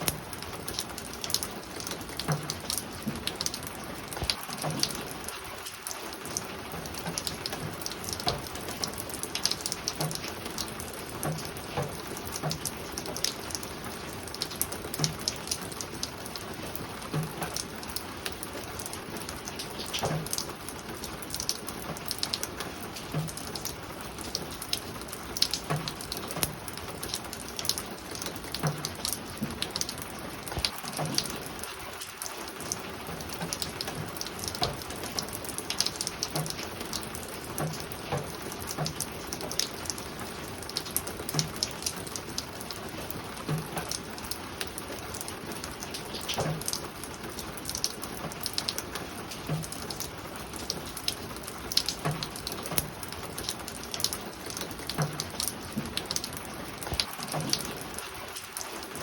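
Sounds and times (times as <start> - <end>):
rain pattering on a roof: 0.0 - 59.0
sharp close drips: 0.0 - 59.0.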